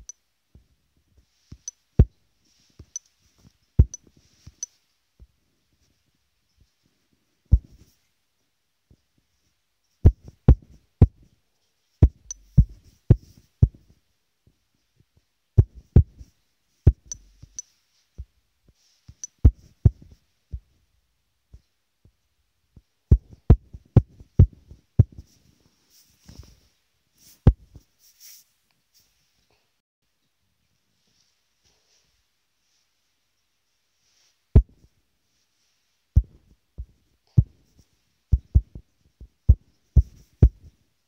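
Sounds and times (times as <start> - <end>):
soft rustle: 0.0 - 20.9, 21.5 - 41.0.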